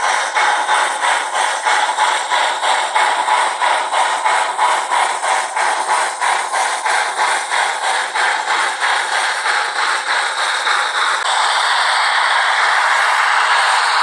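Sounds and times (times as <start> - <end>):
model locomotive steam chuffs: 0.0 - 14.0.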